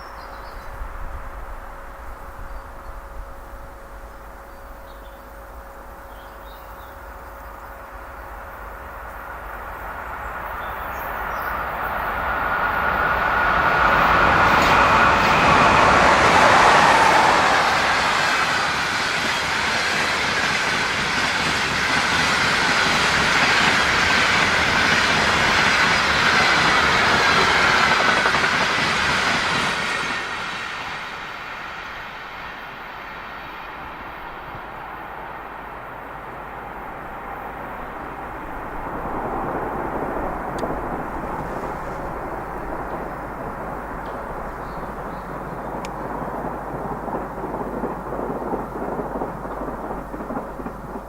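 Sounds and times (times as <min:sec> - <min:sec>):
train passing at speed: 0:00.0 - 0:51.0.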